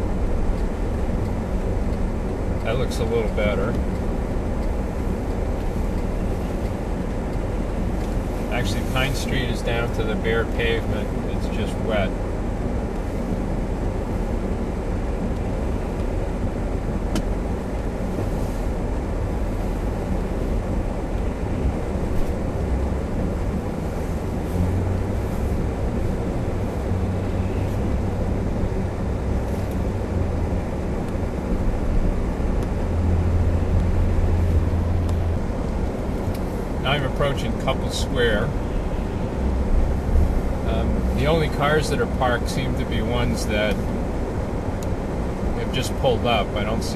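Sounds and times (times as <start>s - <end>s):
car engine droning: 0.0s - 46.9s
tyres rumbling on wet pavement: 0.0s - 46.9s.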